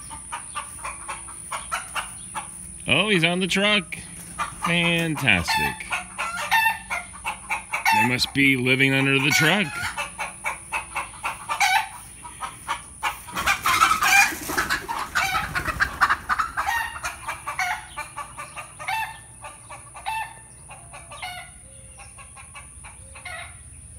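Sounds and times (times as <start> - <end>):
chickens clucking: 0.0 - 23.9.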